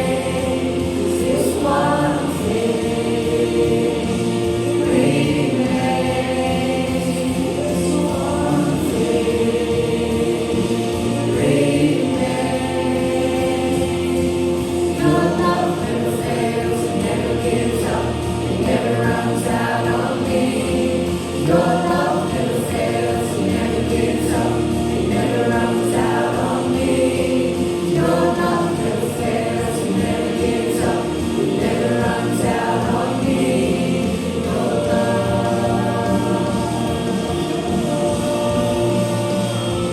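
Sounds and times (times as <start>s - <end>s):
group singing worship music: 0.0s - 39.9s
steady held chords: 0.0s - 39.9s.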